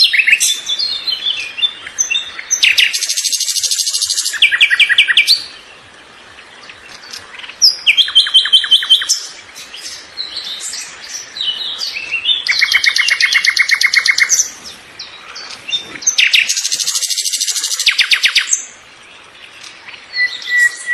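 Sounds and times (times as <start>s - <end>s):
soft bird twittering: 0.0s - 20.9s
songbird trilling: 0.0s - 20.9s.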